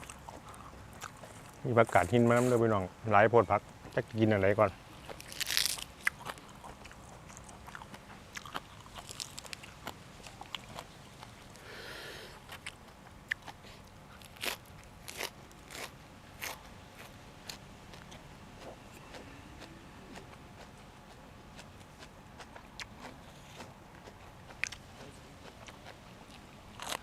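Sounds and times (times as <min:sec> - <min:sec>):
crunching raw vegetables: 0:03.9 - 0:11.7, 0:12.3 - 0:27.0.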